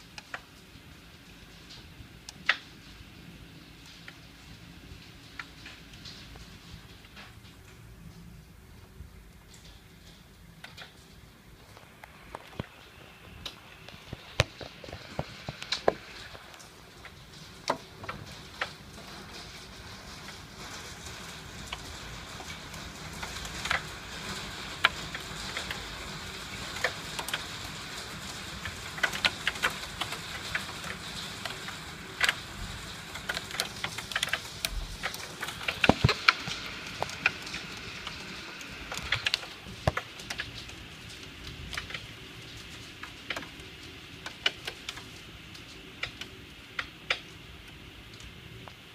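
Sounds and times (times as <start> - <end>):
hailstones ticking on window: 0.0 - 48.9.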